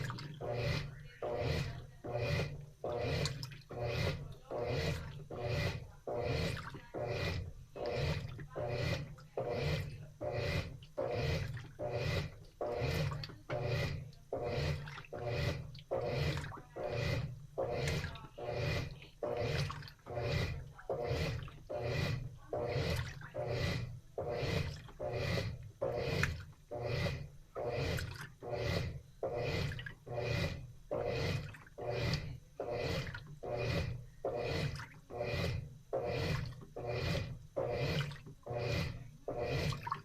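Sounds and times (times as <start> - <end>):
laundry sloshing in drum: 0.0 - 40.0
low motor hum: 0.0 - 40.0.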